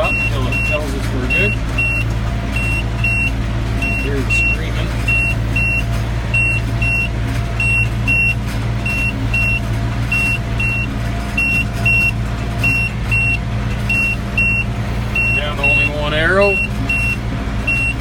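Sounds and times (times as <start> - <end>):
high alarm beeps: 0.0 - 18.0
tractor diesel engine running: 0.0 - 18.0.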